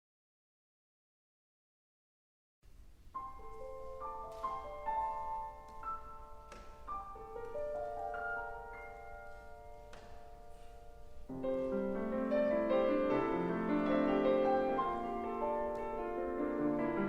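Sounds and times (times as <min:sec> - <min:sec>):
slow classical piano: 0:02.7 - 0:17.0.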